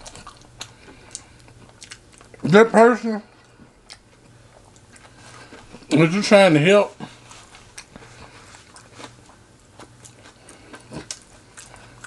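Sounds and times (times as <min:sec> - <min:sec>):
person chewing food: 0:00.0 - 0:02.5, 0:03.3 - 0:05.9, 0:07.0 - 0:12.0.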